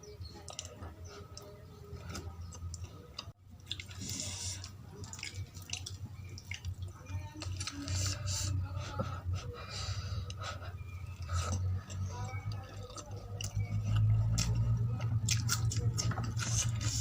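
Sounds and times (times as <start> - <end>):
wet chewing mouth sounds: 0.3 - 8.6, 9.2 - 17.0.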